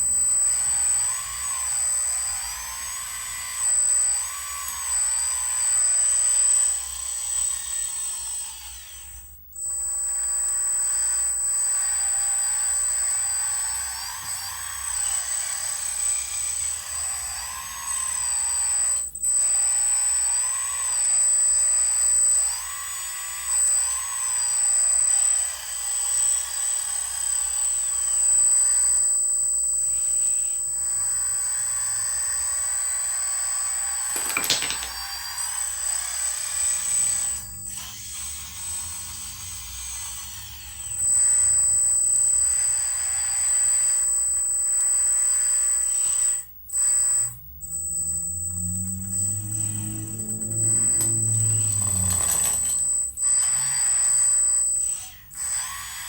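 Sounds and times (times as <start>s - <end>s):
electric hydraulic pump whining: 0.0s - 56.0s.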